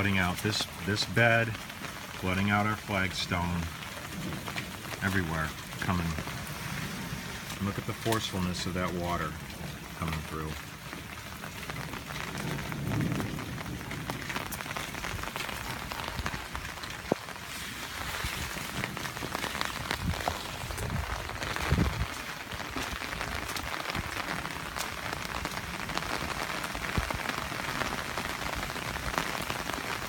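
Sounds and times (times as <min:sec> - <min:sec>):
heavy rain falling: 0:00.0 - 0:30.0
storm runoff rushing: 0:00.0 - 0:30.0.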